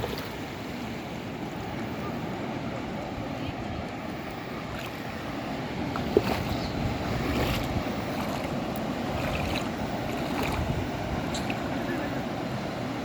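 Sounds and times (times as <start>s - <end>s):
sea waves washing onto beach: 0.0s - 13.0s
wind buffeting microphone: 1.8s - 13.0s.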